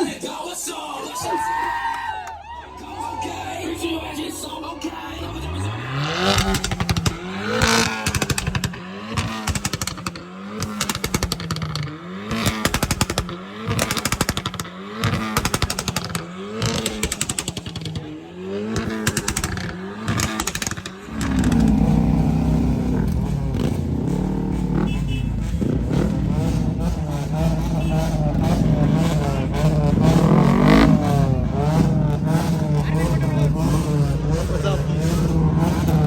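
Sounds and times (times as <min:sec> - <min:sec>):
motorbike engine revving: 0:03.7 - 0:36.0
exhaust crackling pops: 0:06.3 - 0:36.0.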